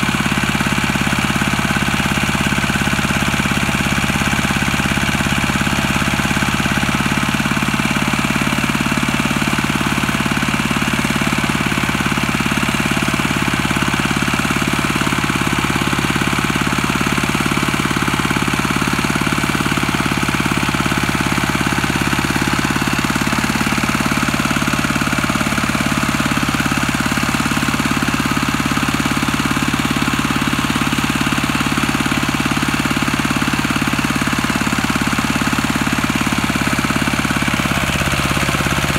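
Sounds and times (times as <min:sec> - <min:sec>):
diesel tractor engine knocking: 0:00.0 - 0:38.9.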